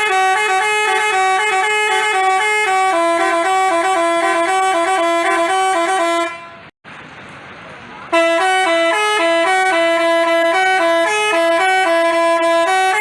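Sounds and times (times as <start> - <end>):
bus horn playing multi-note tune: 0.0 - 6.7, 8.1 - 13.0.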